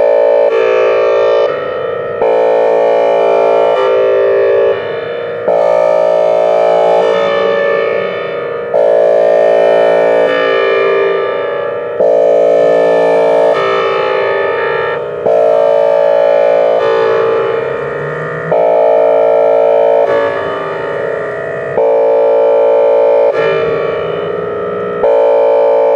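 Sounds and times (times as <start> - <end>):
two-tone electronic siren: 0.0 - 25.9.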